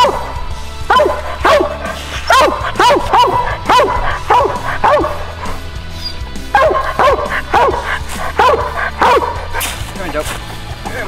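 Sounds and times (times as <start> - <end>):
dog barking: 0.0 - 9.8.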